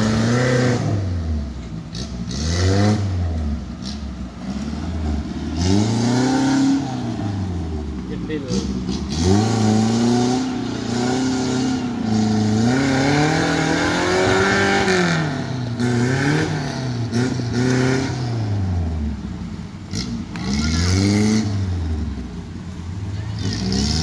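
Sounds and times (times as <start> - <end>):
car engine revving under load: 0.0 - 24.0.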